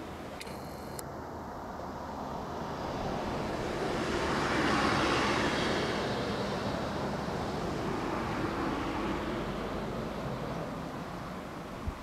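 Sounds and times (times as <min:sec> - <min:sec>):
passing vehicle: 0:01.2 - 0:12.0.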